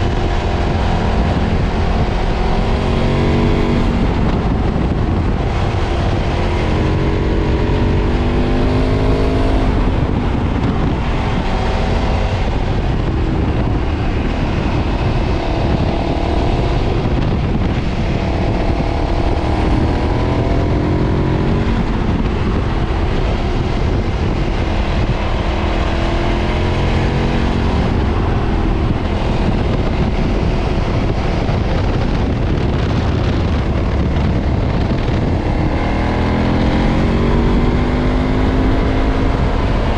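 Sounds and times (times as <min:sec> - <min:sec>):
motorcycle engine revving on the road: 0:00.0 - 0:39.9.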